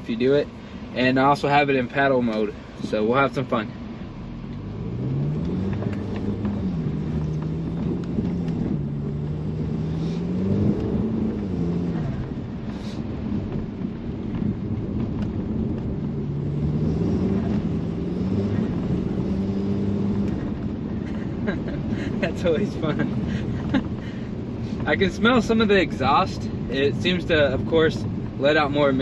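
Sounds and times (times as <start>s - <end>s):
car engine revving from inside: 3.8s - 29.0s.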